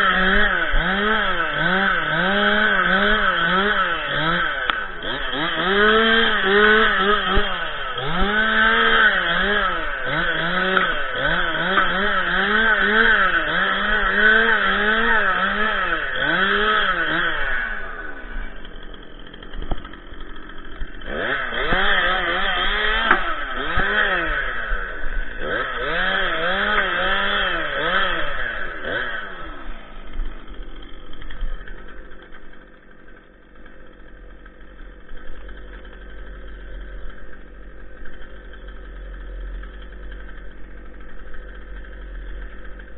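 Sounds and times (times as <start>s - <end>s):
chainsaw revving and cutting branches: 0.0s - 42.9s.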